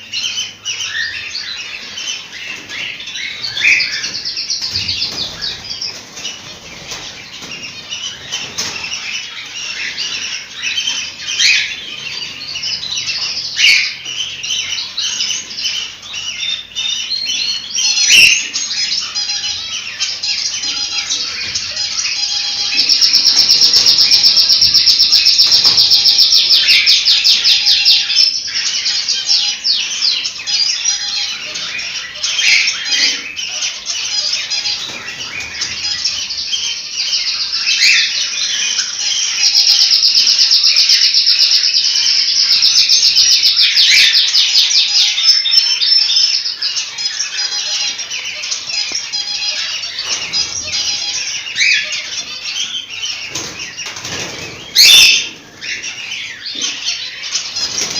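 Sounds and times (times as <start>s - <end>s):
cockatiels chirping and whistling: 0.2s - 57.9s.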